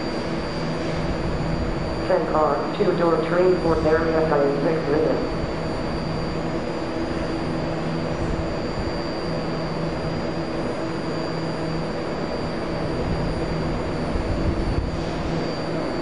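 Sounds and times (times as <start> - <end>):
thin high whine: 0.0 - 16.0
train equipment humming: 0.0 - 16.0.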